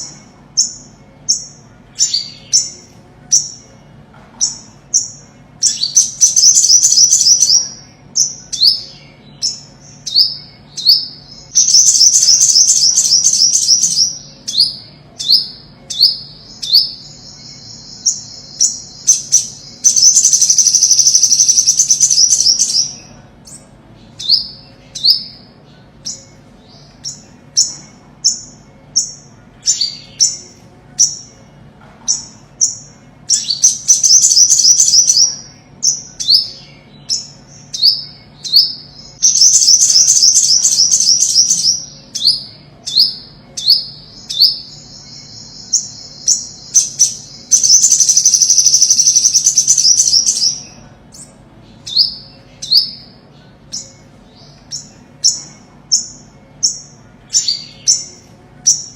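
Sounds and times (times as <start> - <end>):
bird trills: 0.0 - 3.8, 4.4 - 58.9.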